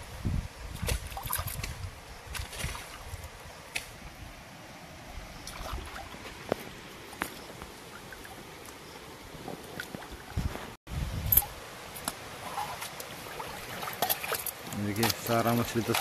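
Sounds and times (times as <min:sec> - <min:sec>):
water splashing and sloshing: 0:00.6 - 0:16.0.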